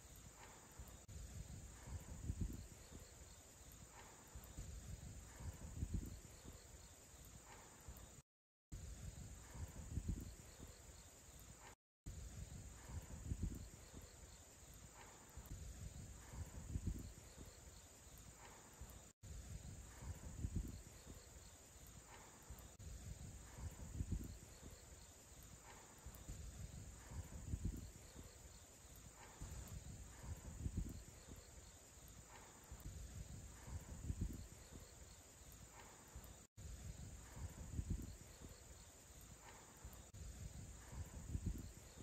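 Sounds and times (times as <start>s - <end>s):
crickets chirring: 0.0s - 8.2s, 8.8s - 42.0s.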